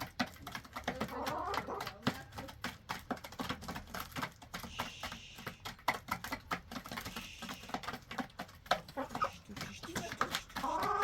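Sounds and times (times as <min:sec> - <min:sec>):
chickens pecking and scratching: 0:00.0 - 0:11.0.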